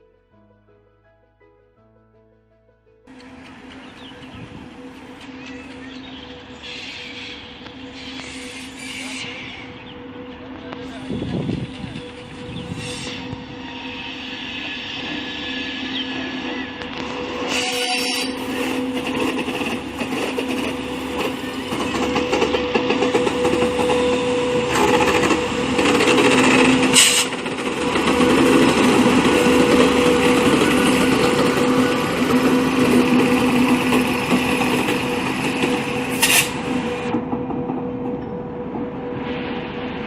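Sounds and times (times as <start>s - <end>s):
train rumbling past: 3.1s - 40.0s.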